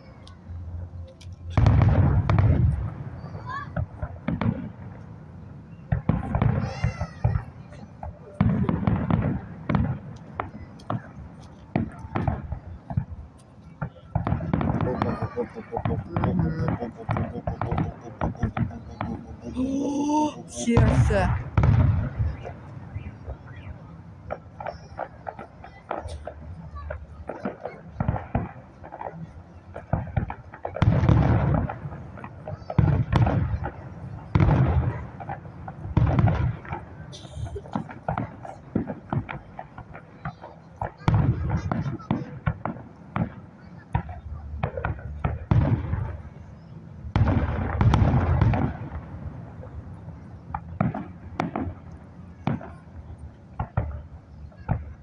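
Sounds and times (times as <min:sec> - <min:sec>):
fireworks booming: 0:00.5 - 0:05.2, 0:05.8 - 0:55.0.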